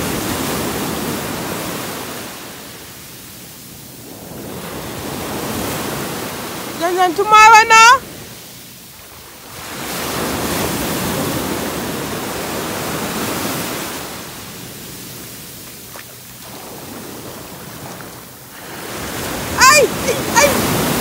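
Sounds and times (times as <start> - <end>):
waves washing up the shore: 0.0 - 21.0.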